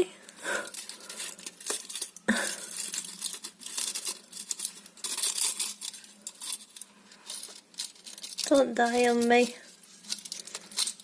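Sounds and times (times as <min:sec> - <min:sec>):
foil and plastic crinkling: 0:00.4 - 0:11.0.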